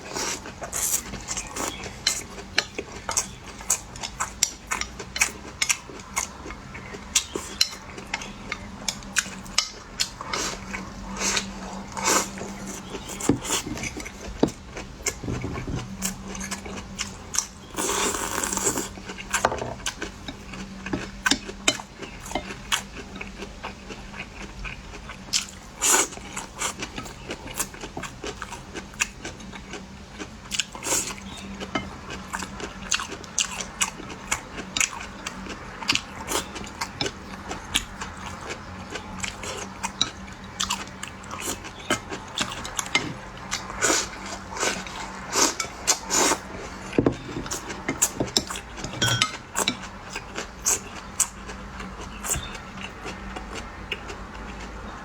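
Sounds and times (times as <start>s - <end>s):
close-miked chewing and bites: 0.0s - 54.8s.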